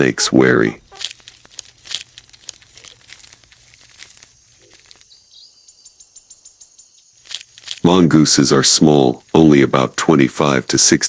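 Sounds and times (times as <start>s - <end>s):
dry vegetation crackling and rustling: 0.0s - 11.0s.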